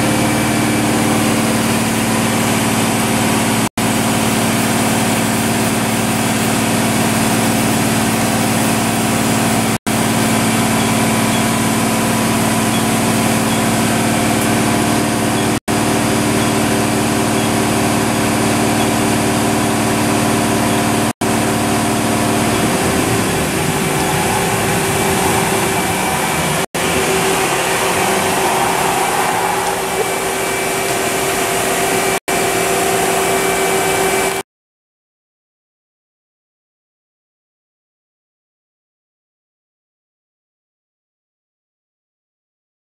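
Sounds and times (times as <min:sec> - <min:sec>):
machine hum with held tones: 0:00.0 - 0:34.4.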